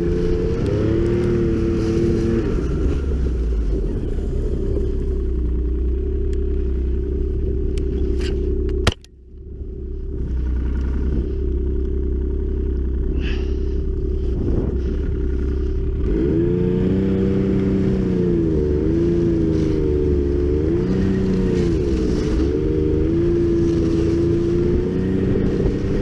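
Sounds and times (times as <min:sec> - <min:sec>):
snowmobile engine running: 0:00.0 - 0:26.0.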